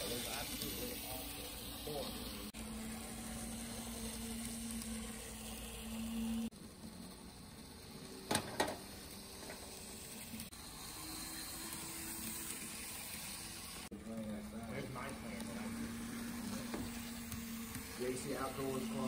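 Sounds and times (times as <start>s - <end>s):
model locomotive motor hum: 0.0s - 19.0s.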